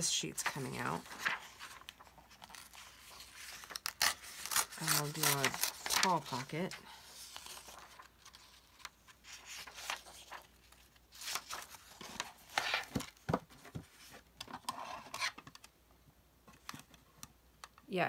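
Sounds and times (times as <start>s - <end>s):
book pages rustling: 0.0s - 15.8s, 16.4s - 17.3s.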